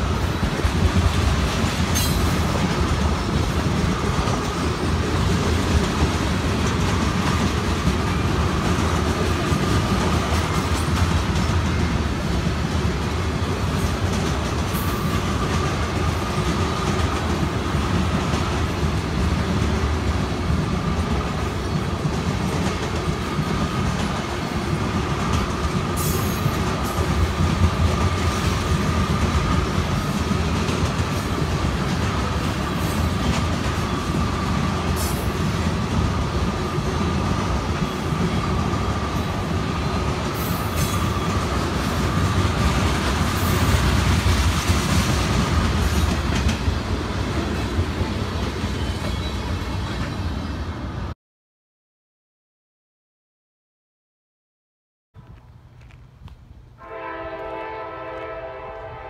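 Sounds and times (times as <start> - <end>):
freight train rumble: 0.0 - 51.2, 55.2 - 59.0.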